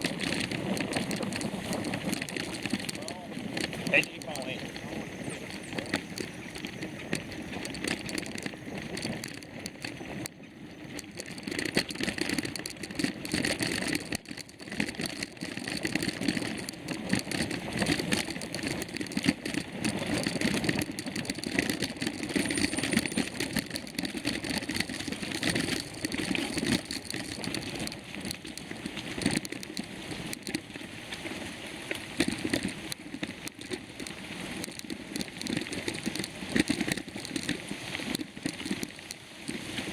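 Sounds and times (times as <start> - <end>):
bike rattling and clicking: 0.0 - 39.9
constant rushing noise: 0.0 - 39.9.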